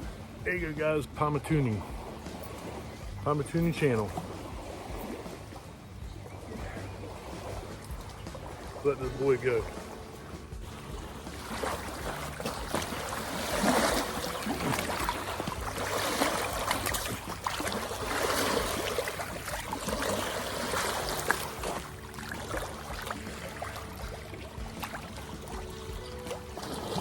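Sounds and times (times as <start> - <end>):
shallow water splashing: 0.0 - 27.0.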